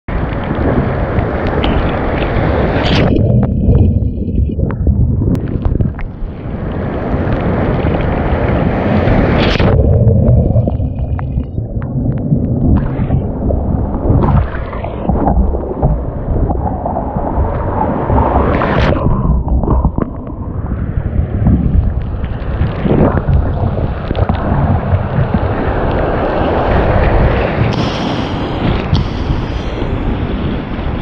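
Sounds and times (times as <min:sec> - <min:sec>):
surf rushing and splashing: 0:00.1 - 0:31.0
wind buffeting microphone: 0:00.1 - 0:31.0.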